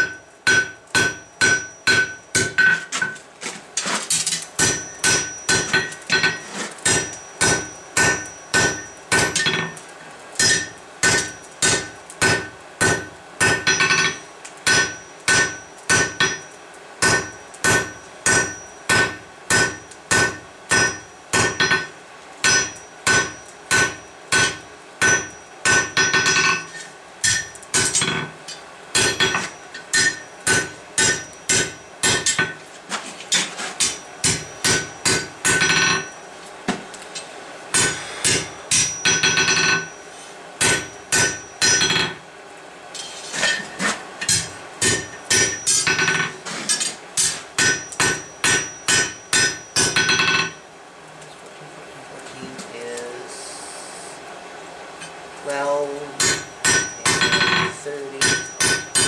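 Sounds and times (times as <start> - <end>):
hammer striking anvil: 0.0 - 3.2, 4.6 - 9.8, 10.4 - 32.6, 33.3 - 36.2, 37.7 - 40.0, 40.6 - 42.2, 43.0 - 50.6, 56.2 - 59.0.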